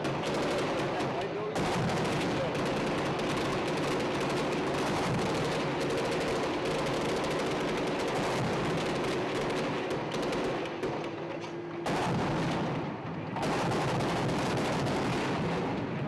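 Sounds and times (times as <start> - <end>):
sustained gunfire: 0.0 - 16.0.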